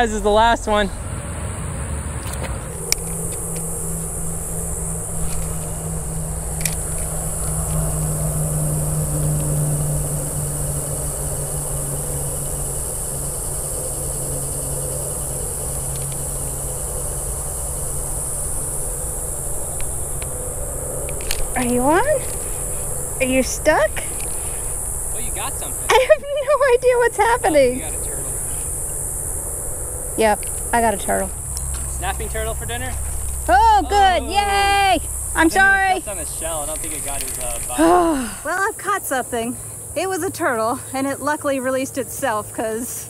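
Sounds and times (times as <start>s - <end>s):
distant engine hum: 0.0s - 43.0s
high insect drone: 0.0s - 43.0s.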